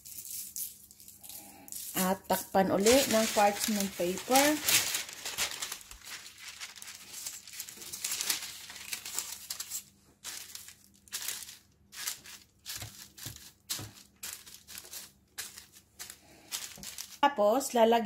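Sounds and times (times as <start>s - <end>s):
parchment paper rustling: 0.0s - 17.4s.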